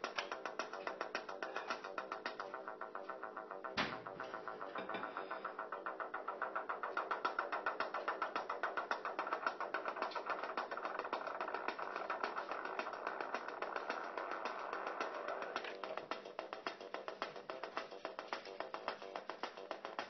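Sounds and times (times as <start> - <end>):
synthesizer pulsing buzzy tone: 0.0 - 20.0.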